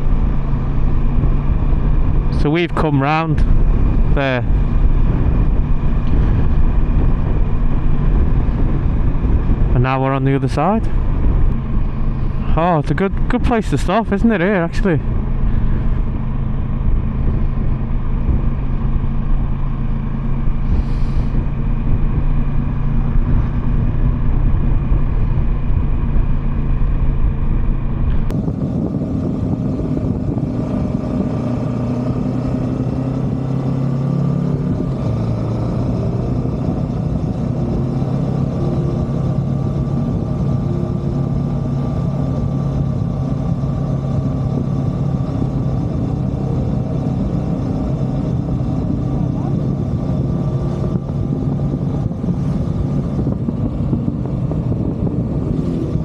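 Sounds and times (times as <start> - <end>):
low wind rumble: 0.0 - 56.0
motorcycle engine running: 0.0 - 56.0.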